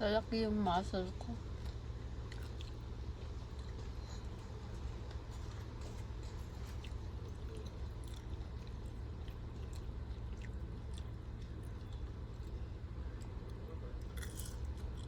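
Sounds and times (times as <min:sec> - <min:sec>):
low car rumble: 0:00.0 - 0:15.0
person chewing crunchy food: 0:01.6 - 0:15.0.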